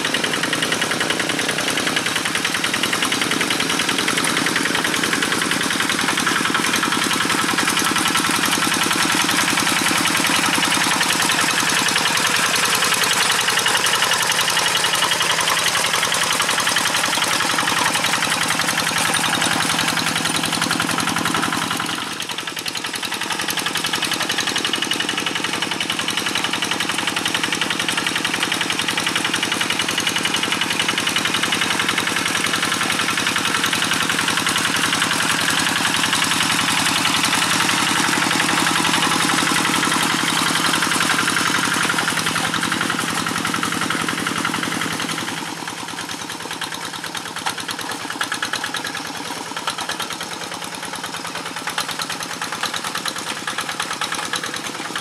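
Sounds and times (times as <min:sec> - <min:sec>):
diesel hand tractor chugging: 0:00.0 - 0:55.0.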